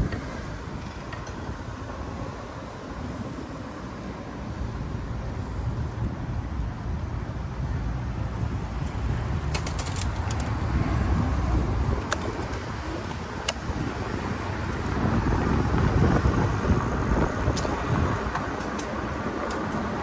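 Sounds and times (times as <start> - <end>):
traffic rumble and hiss: 0.0 - 20.0
wind on microphone: 0.0 - 20.0.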